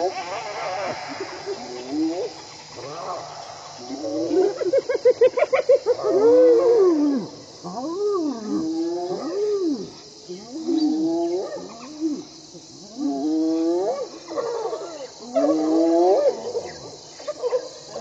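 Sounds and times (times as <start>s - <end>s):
hyenas and wild dogs calling: 0.0s - 18.0s.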